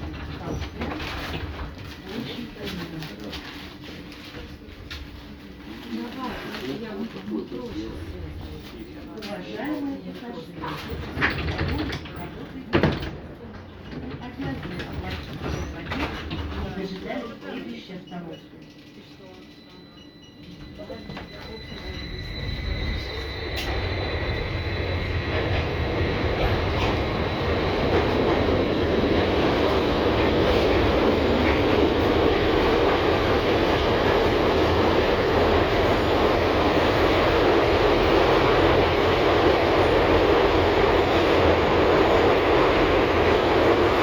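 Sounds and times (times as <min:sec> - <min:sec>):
tram running on rails: 0:00.0 - 0:44.0.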